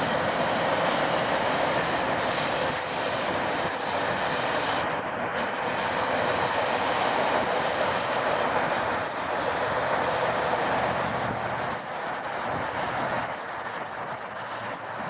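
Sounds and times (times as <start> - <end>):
freight train wheels rushing: 0.0 - 15.0.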